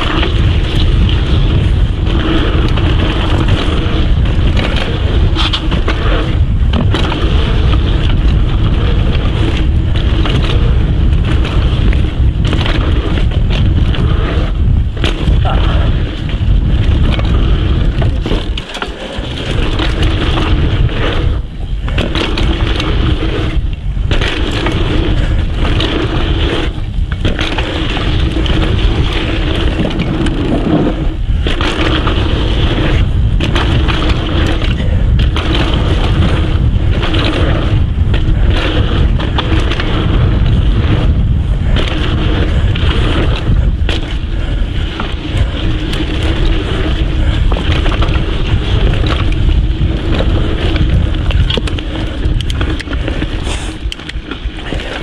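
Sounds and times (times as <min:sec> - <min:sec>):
bike rattling: 0:00.0 - 0:55.0
hum: 0:00.0 - 0:55.0
tyres rolling on dirt: 0:00.0 - 0:55.0
wind rush on microphone: 0:00.0 - 0:55.0.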